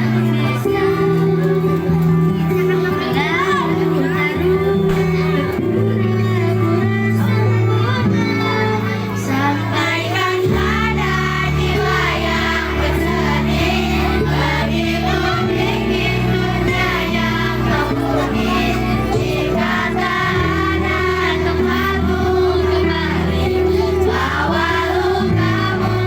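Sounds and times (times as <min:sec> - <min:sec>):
child singing: 0:00.0 - 0:26.0
instrumental backing with bass notes: 0:00.0 - 0:26.0.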